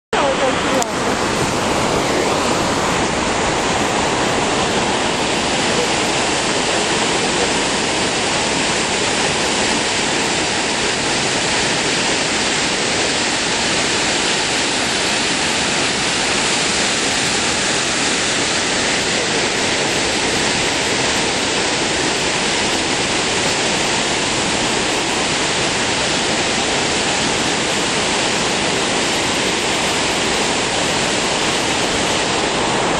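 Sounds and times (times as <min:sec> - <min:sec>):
whitewater rushing: 0:00.1 - 0:32.9.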